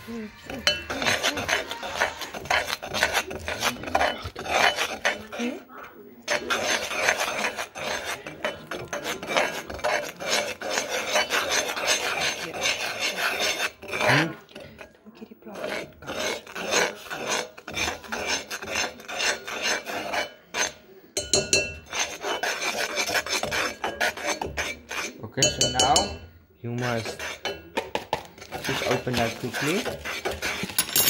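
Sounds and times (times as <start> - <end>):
metal spoon scraping a pot: 0.0 - 31.0.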